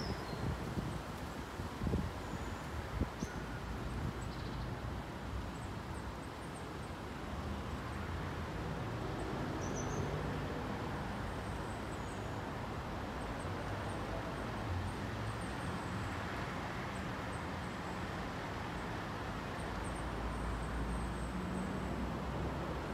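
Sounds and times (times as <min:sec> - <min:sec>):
distant road traffic: 0:01.2 - 0:22.9.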